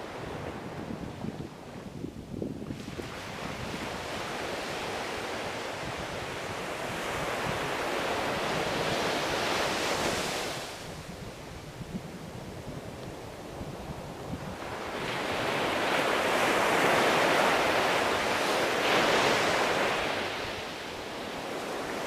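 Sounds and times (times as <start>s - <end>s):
ocean waves on shore: 0.0s - 1.9s, 2.6s - 11.8s, 12.7s - 22.0s.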